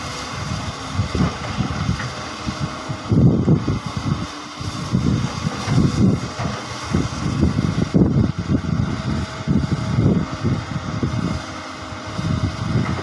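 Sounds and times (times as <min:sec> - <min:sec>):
excavator engine rumbling: 0:00.0 - 0:13.0.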